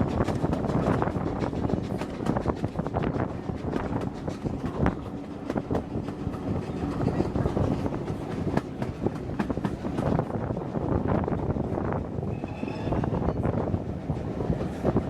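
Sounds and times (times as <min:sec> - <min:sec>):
train wheels clattering over rail joints: 0:00.0 - 0:15.0.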